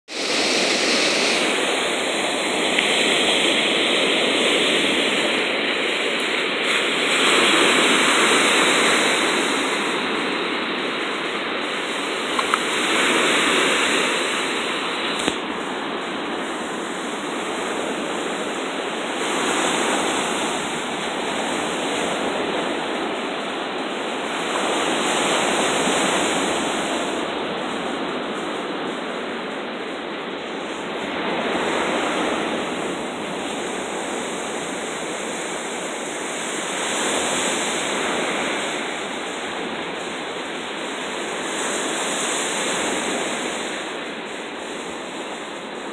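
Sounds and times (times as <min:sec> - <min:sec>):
sea surf washing onto beach: 0:00.1 - 0:45.9.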